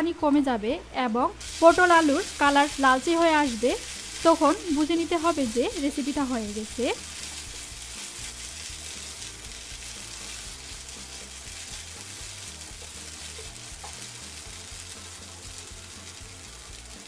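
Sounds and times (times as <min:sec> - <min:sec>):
curry sizzling in frying pan: 0:01.4 - 0:17.0
spatula stirring: 0:01.4 - 0:17.0.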